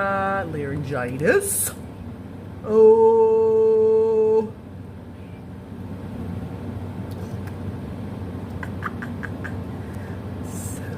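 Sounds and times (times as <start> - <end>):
low background rumble: 0.0 - 10.9.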